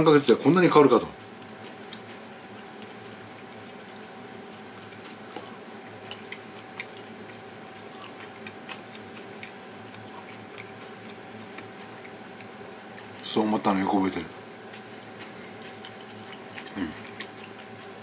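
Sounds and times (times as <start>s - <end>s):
room hum with thin tone: 0.0s - 18.0s
person chewing food: 1.1s - 13.2s, 14.2s - 18.0s.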